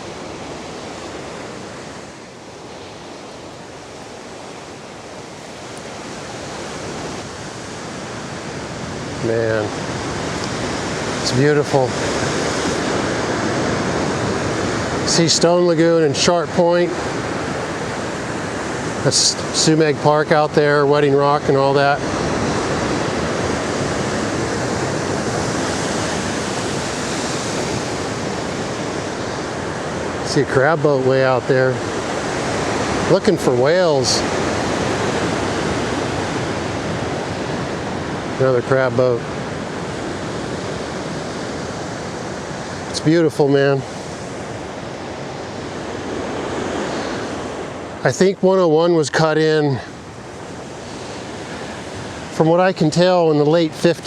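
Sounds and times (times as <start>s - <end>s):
ocean waves breaking: 0.0s - 54.0s
wind: 0.0s - 54.0s.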